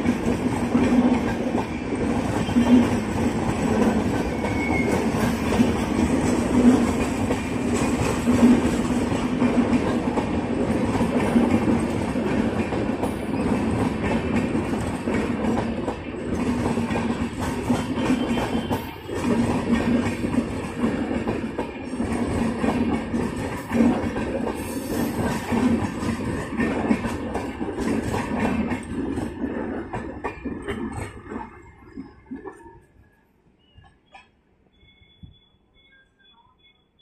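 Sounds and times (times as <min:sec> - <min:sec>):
wheels clickety-clack over track: 0:00.0 - 0:34.5
train wheels rumbling on rails: 0:00.0 - 0:36.8.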